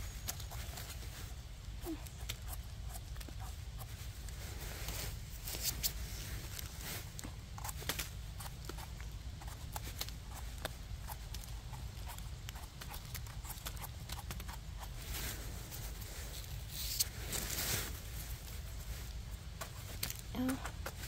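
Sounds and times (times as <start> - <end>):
leaves rustling: 0.0 - 21.0.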